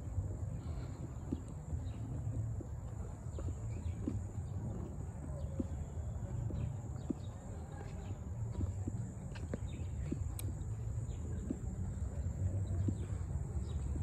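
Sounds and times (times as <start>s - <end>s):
footsteps on dirt path: 0.0s - 14.0s.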